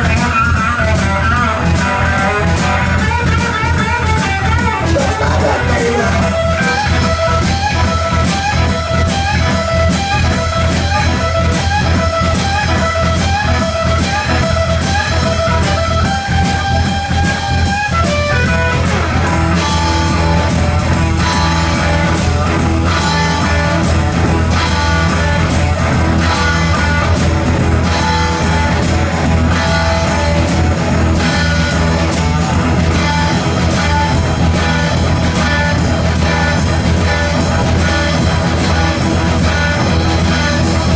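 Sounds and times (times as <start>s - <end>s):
bass guitar: 0.0s - 40.9s
drum kit: 0.0s - 40.9s
electric guitar riff: 0.0s - 40.9s.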